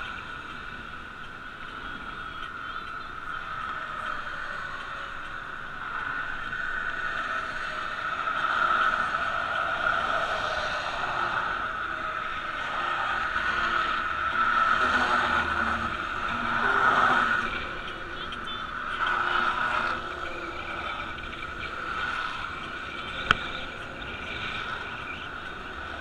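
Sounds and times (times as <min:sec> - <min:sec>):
bicycle riding noise: 0:00.0 - 0:26.0
cars passing: 0:00.0 - 0:26.0
road traffic hum: 0:00.0 - 0:26.0.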